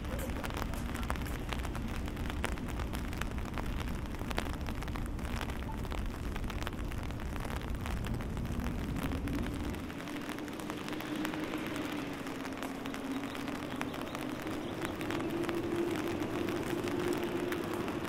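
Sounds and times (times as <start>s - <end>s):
low rumble: 0.0s - 18.0s
rain pattering on umbrella: 0.0s - 18.0s.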